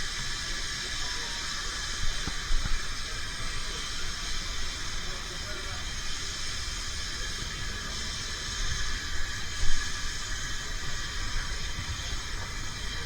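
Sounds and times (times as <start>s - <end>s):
steam train hiss and rumble: 0.0s - 13.0s.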